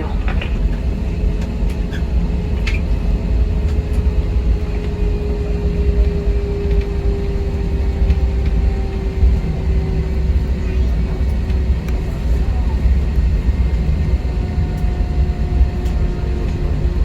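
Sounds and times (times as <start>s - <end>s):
airliner cabin rumble: 0.0s - 17.0s
mid-pitched hum: 0.0s - 17.0s.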